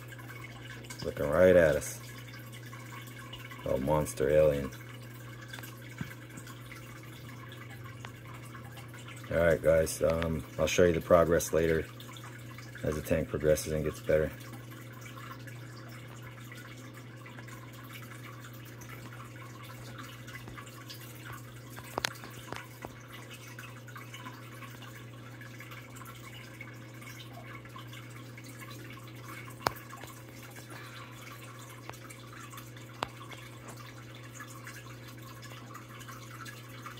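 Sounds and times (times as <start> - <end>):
water trickling and dripping: 0.0 - 36.9.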